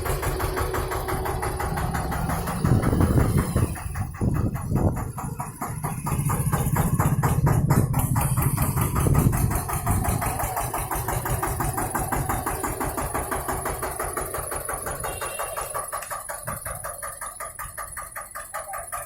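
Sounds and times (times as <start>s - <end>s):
tractor engine pulsing: 0.0s - 19.0s.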